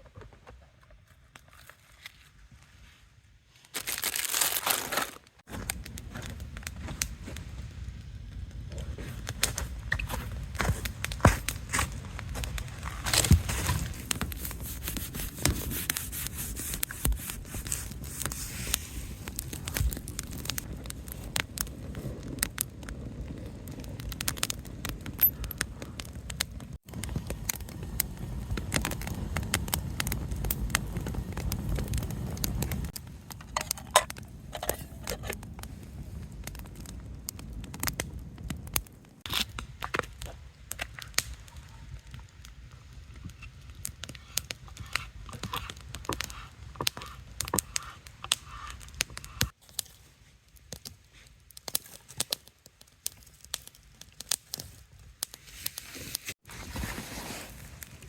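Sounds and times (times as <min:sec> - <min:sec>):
campfire crackling and popping: 0:05.4 - 0:58.0.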